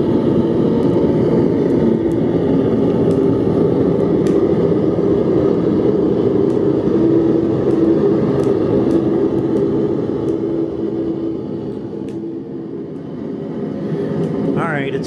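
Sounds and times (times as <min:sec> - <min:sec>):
gas burner flame rushing: 0:00.0 - 0:15.0.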